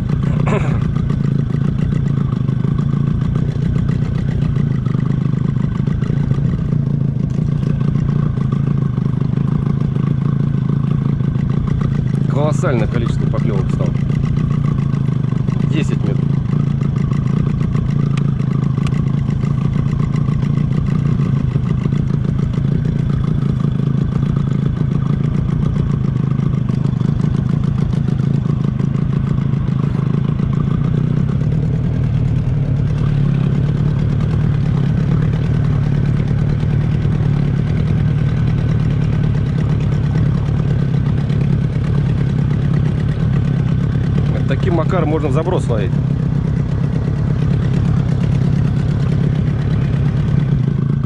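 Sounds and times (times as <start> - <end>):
outboard motor humming: 0.0 - 51.0.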